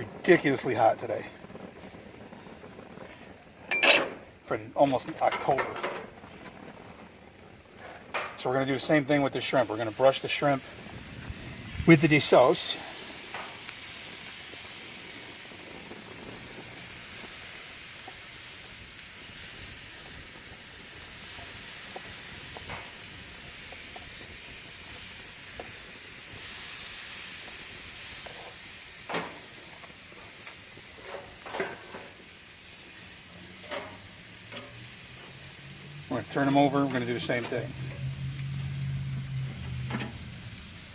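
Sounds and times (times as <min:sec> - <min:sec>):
food sizzling on a grill: 0:00.0 - 0:40.9.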